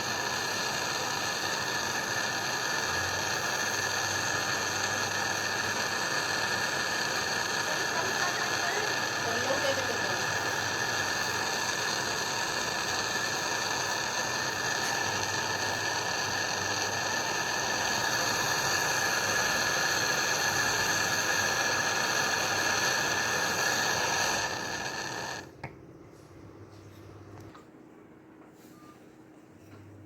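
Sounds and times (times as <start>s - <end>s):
steady hissing with whining tones: 0.0s - 25.6s.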